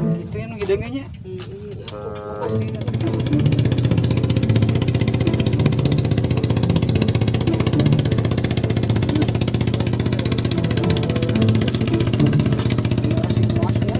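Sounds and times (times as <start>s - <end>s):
background music: 0.0s - 0.9s, 2.0s - 13.9s
engine running steadily: 0.0s - 13.9s.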